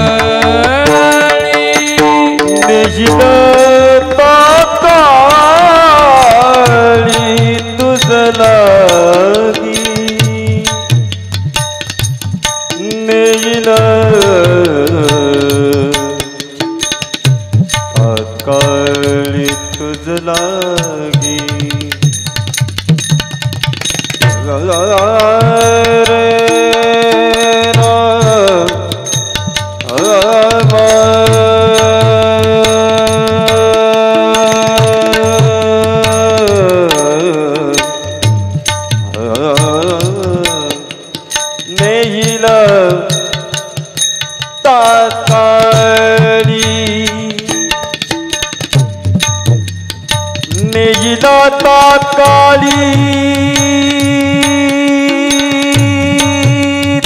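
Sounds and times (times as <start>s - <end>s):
tabla and mridang drumming: 0.0s - 57.0s.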